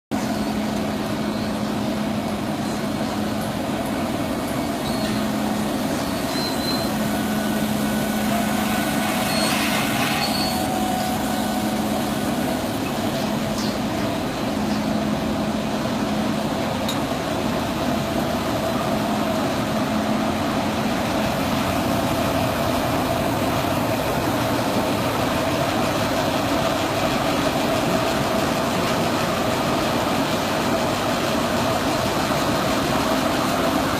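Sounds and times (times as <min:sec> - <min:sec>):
production line machinery drone: 0:00.2 - 0:33.9.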